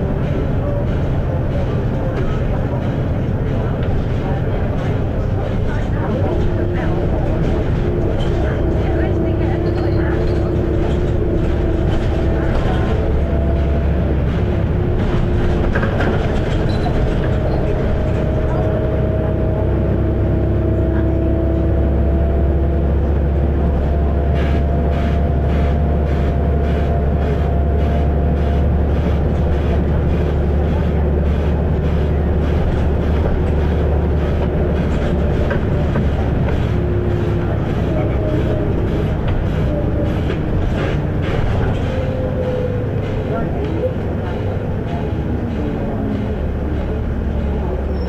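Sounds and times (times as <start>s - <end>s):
bus diesel engine droning: 0.0s - 48.0s
drivetrain whine: 0.0s - 48.0s.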